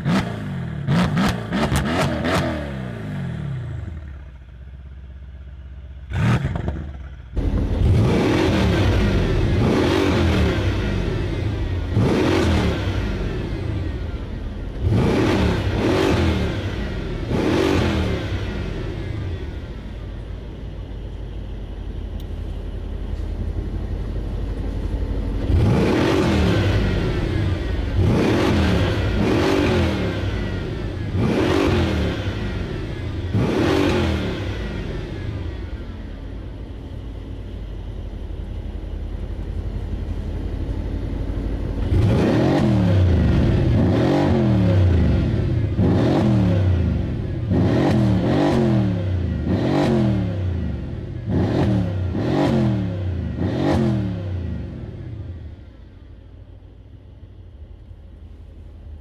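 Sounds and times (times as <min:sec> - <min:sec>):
car engine revving: 0:00.0 - 0:04.2, 0:06.1 - 0:55.6.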